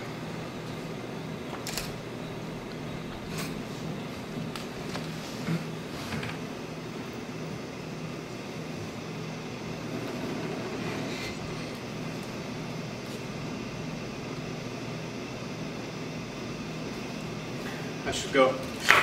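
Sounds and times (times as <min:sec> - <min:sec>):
room noise hum and hiss: 0:00.0 - 0:19.0.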